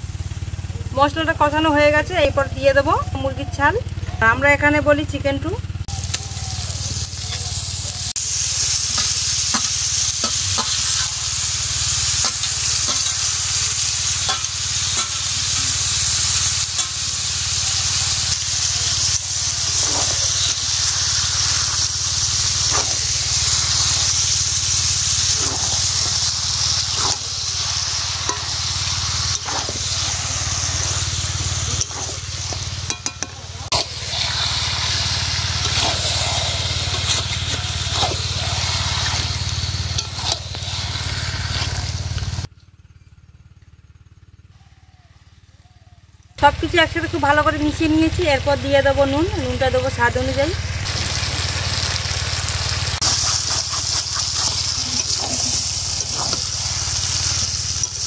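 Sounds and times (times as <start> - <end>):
chicken skin sizzling in a wok: 0.0 - 42.5, 44.6 - 58.0.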